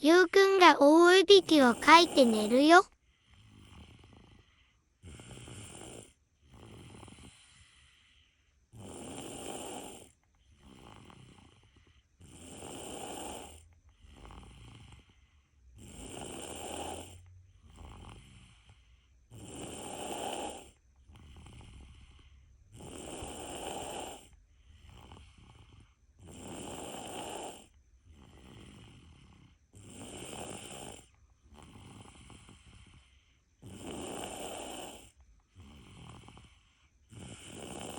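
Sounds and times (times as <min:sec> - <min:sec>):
heavy snoring: 0:03.3 - 0:15.2, 0:15.8 - 0:37.9.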